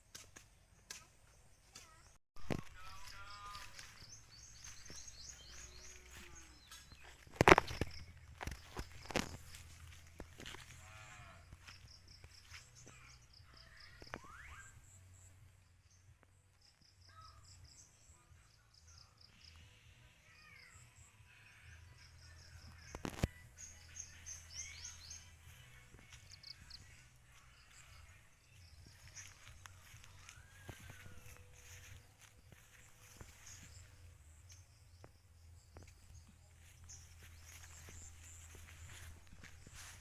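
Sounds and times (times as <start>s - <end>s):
birds chirping: 0.1s - 40.0s.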